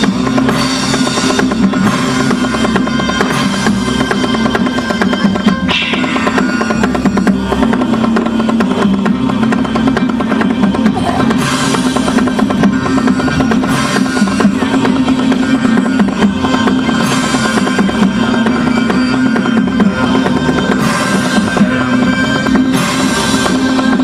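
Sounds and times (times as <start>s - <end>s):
cymbal crashes: 0.0s - 24.0s
loud drum-heavy music: 0.0s - 24.0s.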